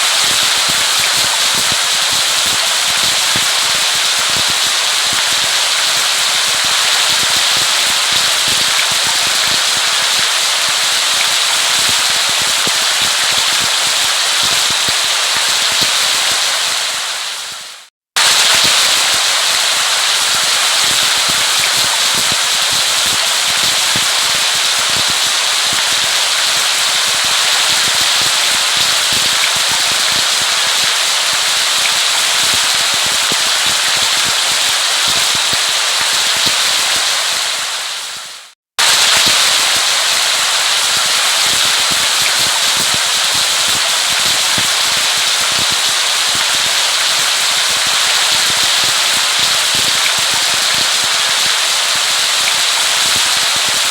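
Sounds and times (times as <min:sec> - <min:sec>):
heavy rain pattering: 0:00.0 - 0:53.9.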